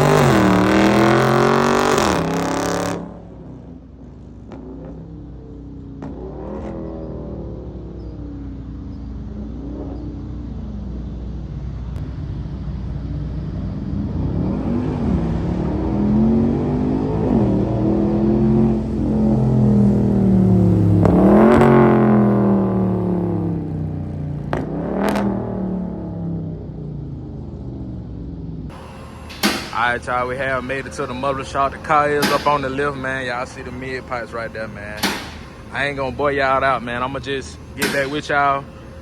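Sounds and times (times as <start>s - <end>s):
car exhaust accelerating: 0.0s - 39.0s.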